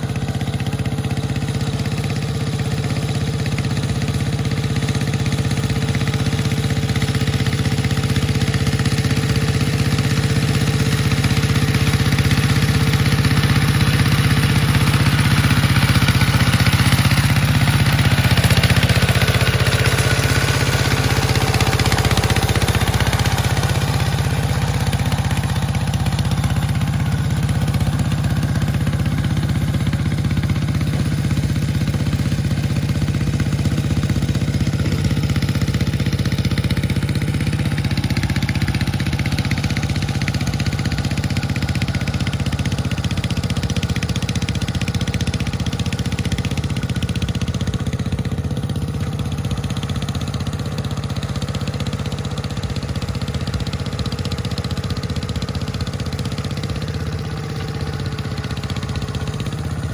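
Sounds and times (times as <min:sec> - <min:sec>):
hand tractor engine running: 0:00.0 - 0:59.9.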